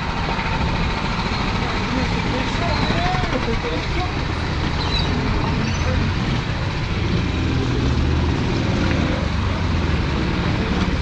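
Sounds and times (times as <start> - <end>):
kart engines running: 0.0 - 11.0.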